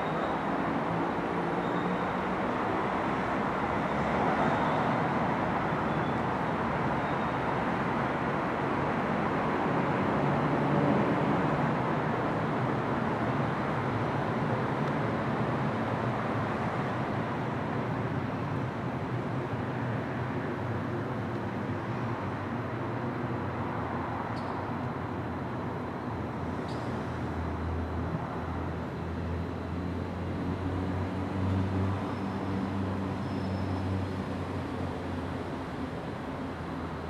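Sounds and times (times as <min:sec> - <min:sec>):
railway station background noise: 0:00.0 - 0:37.0.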